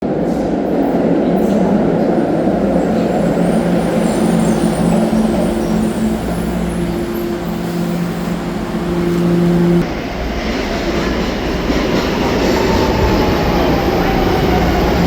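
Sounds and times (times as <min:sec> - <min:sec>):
train rumbling past on rails: 0:00.0 - 0:15.0.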